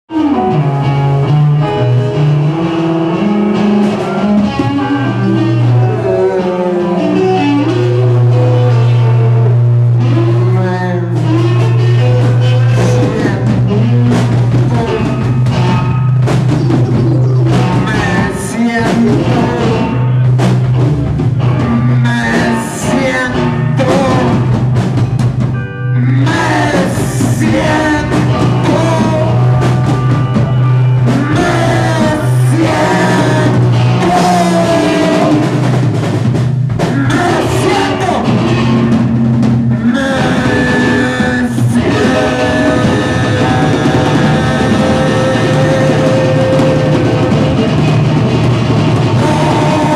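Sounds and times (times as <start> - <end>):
drum kit: 0.1 - 49.9.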